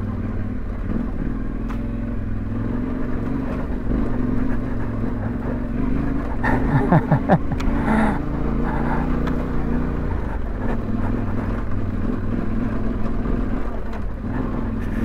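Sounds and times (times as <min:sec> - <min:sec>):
motorcycle engine running: 0:00.0 - 0:15.0
motorcycle jolting rattles: 0:00.0 - 0:15.0.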